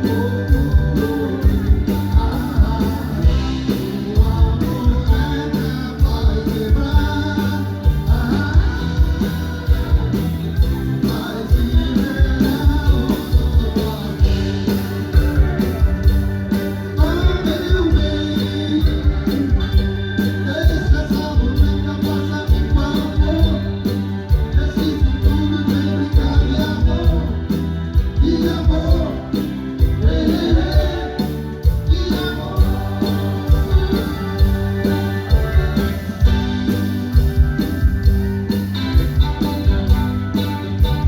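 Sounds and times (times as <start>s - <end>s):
live band playing upbeat song: 0.0s - 41.0s.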